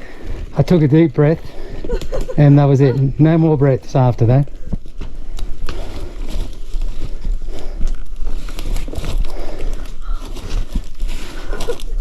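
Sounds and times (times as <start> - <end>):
rustling and scraping: 0.0 - 12.0.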